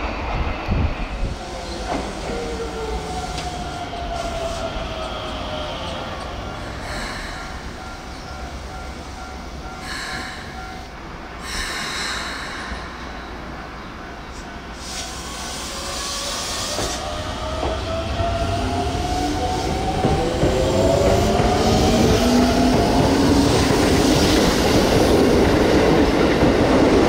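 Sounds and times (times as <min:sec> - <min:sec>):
electric train on rails: 0:00.0 - 0:27.0.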